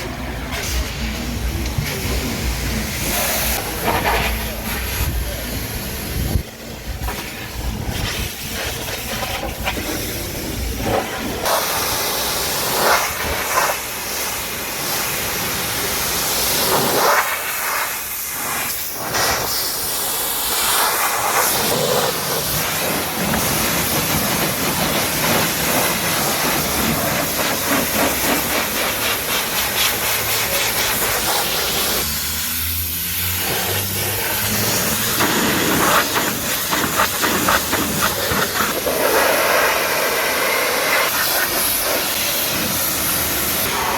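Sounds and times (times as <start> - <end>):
pressure washer spraying water: 0.1 - 43.9.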